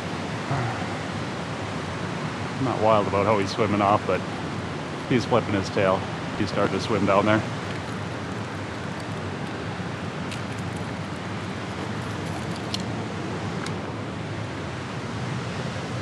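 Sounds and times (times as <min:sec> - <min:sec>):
rushing spillway water: 0:00.0 - 0:16.0.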